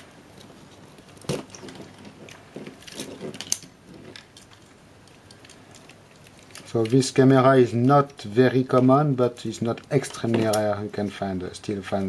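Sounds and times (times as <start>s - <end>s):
wires being handled: 0.0s - 12.0s.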